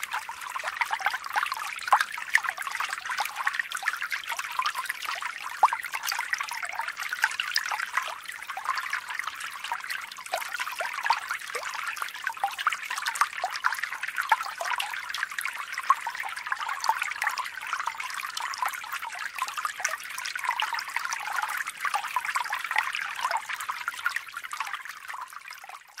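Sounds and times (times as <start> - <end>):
trickling bubbling water: 0.0 - 26.0.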